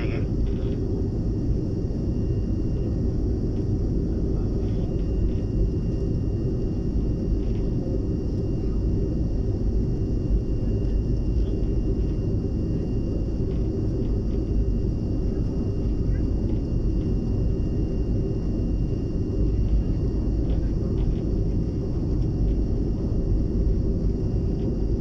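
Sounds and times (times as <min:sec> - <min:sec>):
aircraft cabin engine rumble: 0:00.0 - 0:25.0
faint high engine whine: 0:00.0 - 0:25.0.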